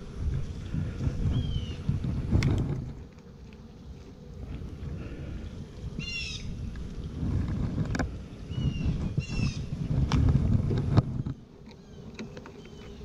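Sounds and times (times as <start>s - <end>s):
wind rumble on microphone: 0.0s - 3.2s, 3.9s - 11.6s.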